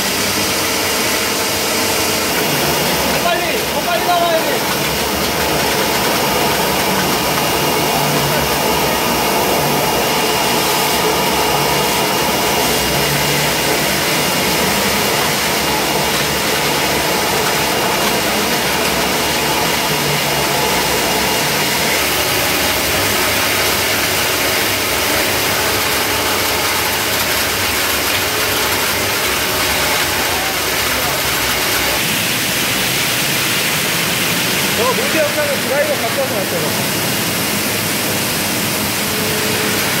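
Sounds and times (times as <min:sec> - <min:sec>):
vacuum blower and motors whirring: 0:00.0 - 0:40.0.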